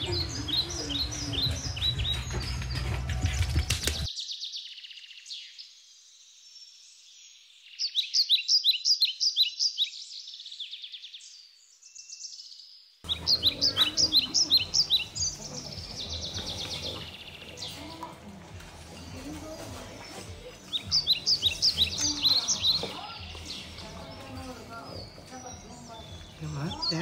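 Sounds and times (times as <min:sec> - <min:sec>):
bird chirping and warbling: 0:00.0 - 0:18.1, 0:19.0 - 0:27.0.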